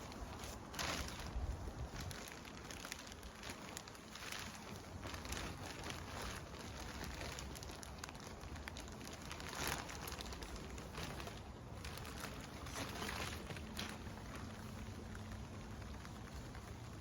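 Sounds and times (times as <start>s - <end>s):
rain pattering: 0.0s - 17.0s
rustles: 0.0s - 17.0s.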